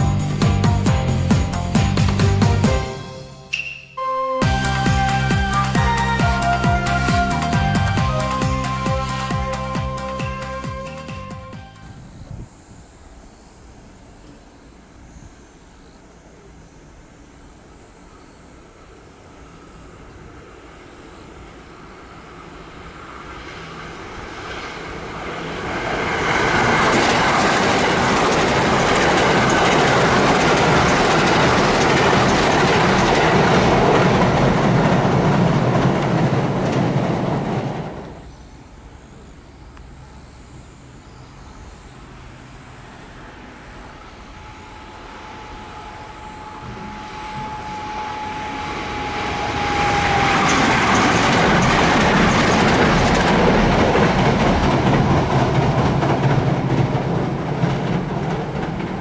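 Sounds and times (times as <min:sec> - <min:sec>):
electric train approaching: 0:00.0 - 0:59.0
electric train passing at speed: 0:00.0 - 0:59.0.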